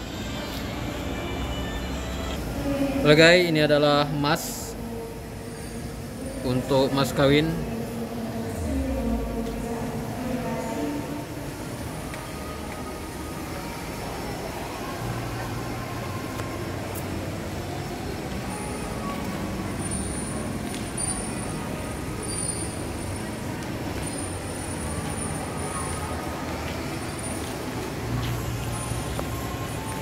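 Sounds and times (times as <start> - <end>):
shopping mall background rumble: 0.0 - 30.0.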